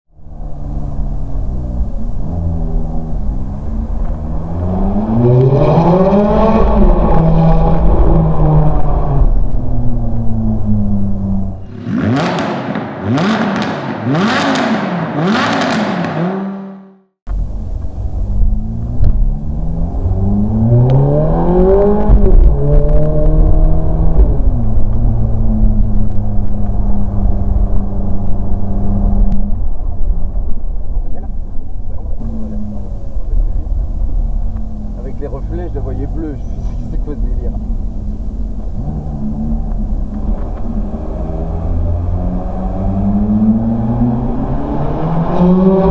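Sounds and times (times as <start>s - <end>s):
sports car engine revving: 0.2s - 17.0s, 17.6s - 29.8s, 31.9s - 45.9s.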